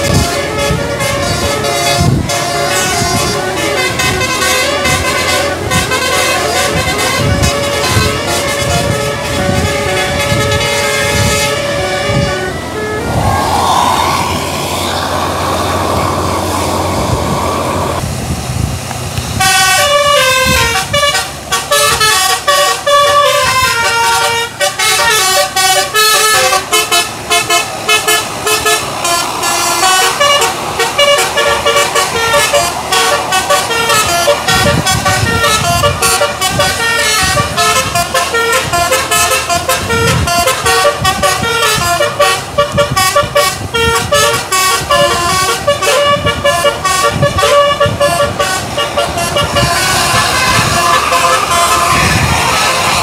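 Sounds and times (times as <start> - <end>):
musical bus air horn tune: 0.0 - 18.0, 19.4 - 53.0
engine rumble: 0.0 - 53.0.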